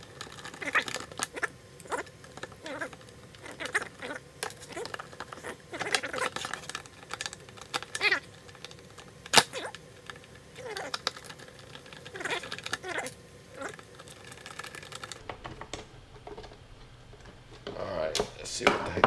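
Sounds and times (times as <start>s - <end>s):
plastic creaking: 0.0s - 19.0s.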